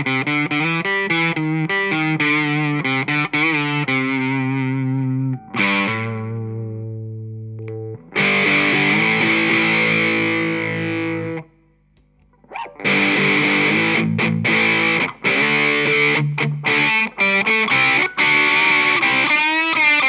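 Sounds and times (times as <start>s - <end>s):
distorted electric guitar: 0.0s - 11.6s, 12.2s - 20.0s.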